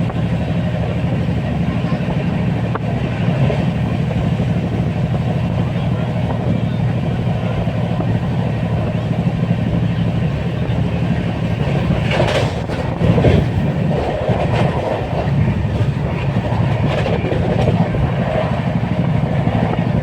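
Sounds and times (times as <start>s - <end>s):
train clattering rattles: 0.0s - 20.0s
train wheels rumbling on rails: 0.0s - 20.0s.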